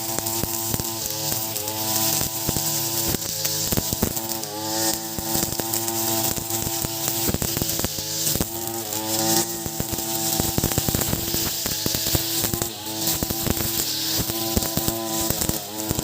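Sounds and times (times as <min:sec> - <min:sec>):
brush cutter engine at high revs: 0:00.0 - 0:16.0
sharp ticks: 0:00.0 - 0:16.0
trimmer line cutting grass: 0:00.0 - 0:16.0.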